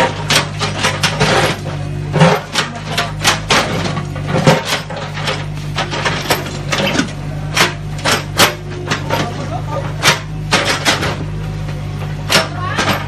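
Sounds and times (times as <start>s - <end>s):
bricks clattering: 0.0s - 11.4s
bucket scraping rubble: 0.0s - 11.4s
excavator engine running: 0.0s - 13.0s.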